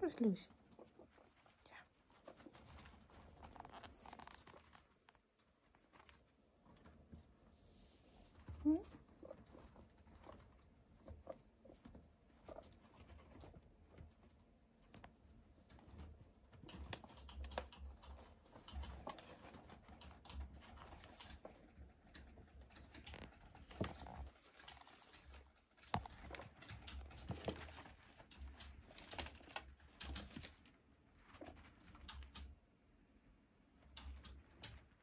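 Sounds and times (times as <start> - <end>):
guinea pigs moving and feeding: 0.0 - 35.0.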